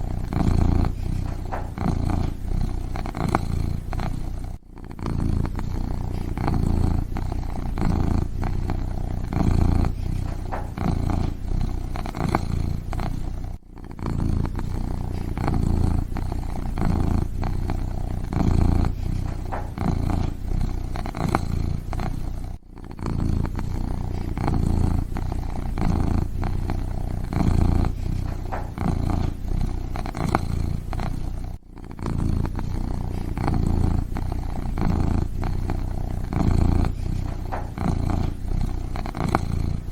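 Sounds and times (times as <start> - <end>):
kitten purring: 0.0 - 39.9.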